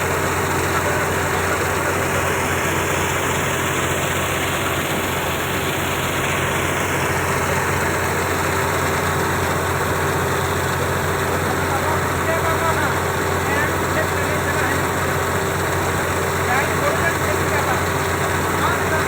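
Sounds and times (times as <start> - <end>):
machinery engine humming: 0.0 - 19.0.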